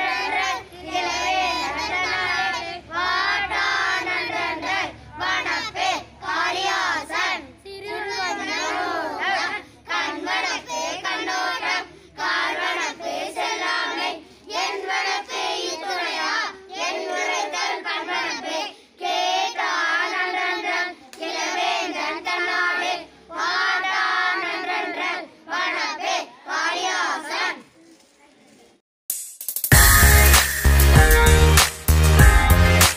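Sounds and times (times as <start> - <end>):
boys singing together unaccompanied: 0.0 - 27.6.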